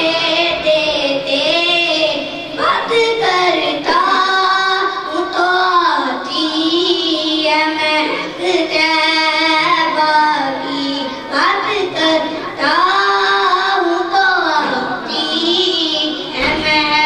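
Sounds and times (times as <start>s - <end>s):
boy singing into a microphone: 0.0s - 17.0s.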